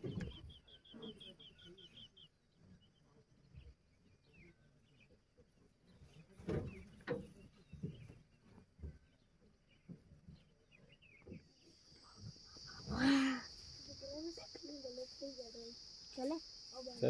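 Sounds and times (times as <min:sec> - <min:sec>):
faint chirps: 0:00.0 - 0:17.0.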